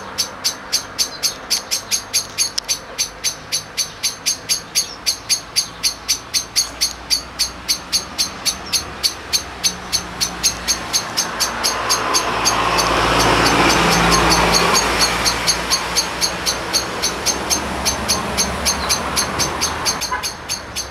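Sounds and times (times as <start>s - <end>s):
rhythmic chirping: 0.0s - 20.9s
vehicle passing rumble: 0.0s - 20.9s.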